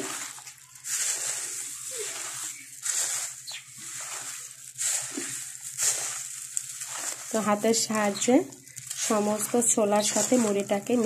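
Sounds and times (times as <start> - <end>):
puffed rice rustling and crunching: 0.0 - 11.0.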